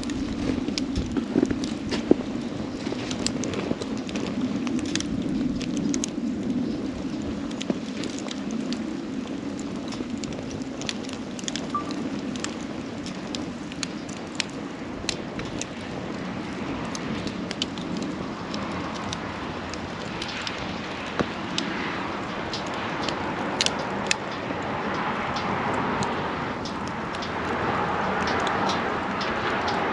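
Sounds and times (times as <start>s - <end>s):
campfire crackling and popping: 0.0s - 29.9s
fire rushing: 0.0s - 29.9s.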